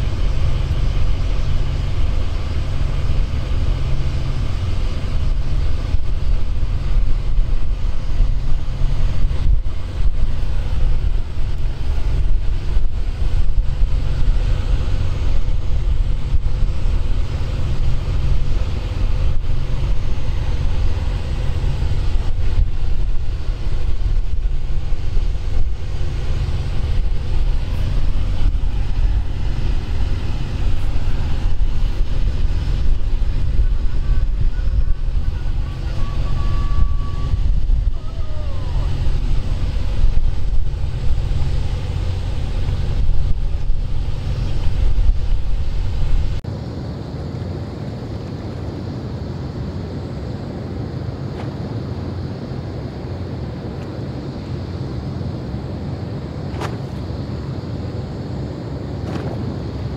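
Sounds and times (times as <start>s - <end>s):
ship moving through water: 0.0s - 59.9s
wind buffeting microphone: 0.0s - 59.9s.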